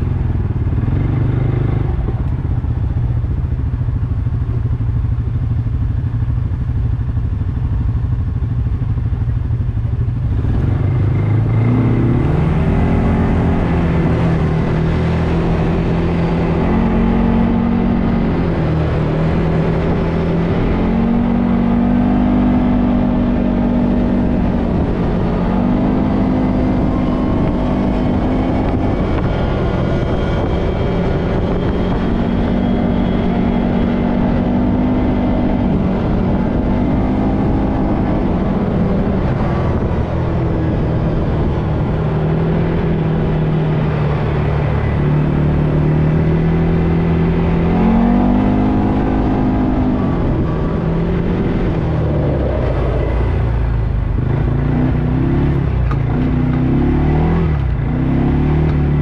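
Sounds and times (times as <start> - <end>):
atv engine running: 0.0 - 59.0
road rumble: 0.0 - 59.0
wind: 0.0 - 59.0.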